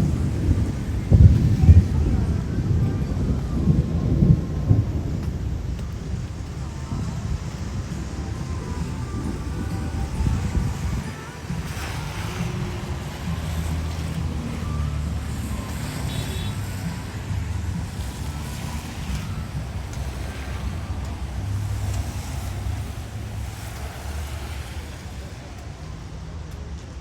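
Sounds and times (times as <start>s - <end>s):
car engines rumbling: 0.0s - 27.0s
road noise: 0.0s - 27.0s.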